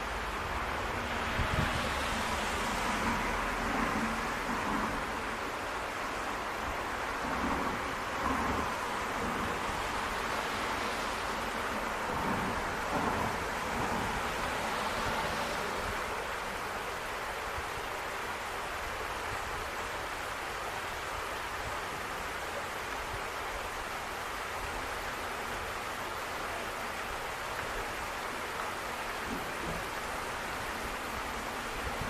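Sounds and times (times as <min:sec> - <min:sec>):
falling rain hiss: 0:00.0 - 0:32.0
running water: 0:00.0 - 0:32.0.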